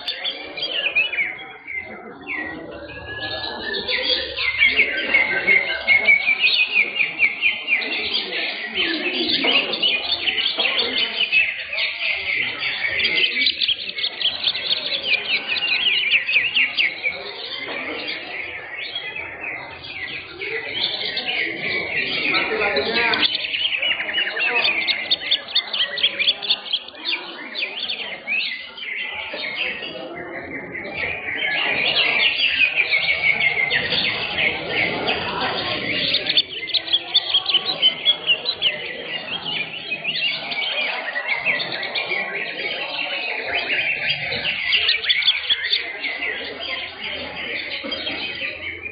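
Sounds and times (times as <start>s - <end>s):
birds singing chirps and whistles: 0.0s - 48.9s
low background murmur: 0.0s - 48.9s.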